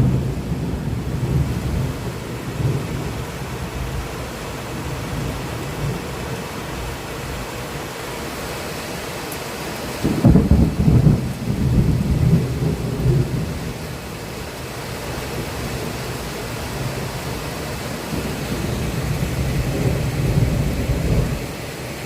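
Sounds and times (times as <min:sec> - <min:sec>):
thunder rumbling: 0:00.0 - 0:06.2, 0:10.0 - 0:21.6
heavy rain hiss: 0:00.0 - 0:22.0.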